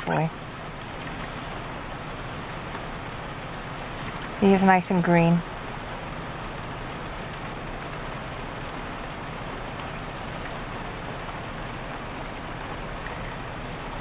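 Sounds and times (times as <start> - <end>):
low steady hum: 0.0 - 14.0
steady rain falling: 0.0 - 14.0.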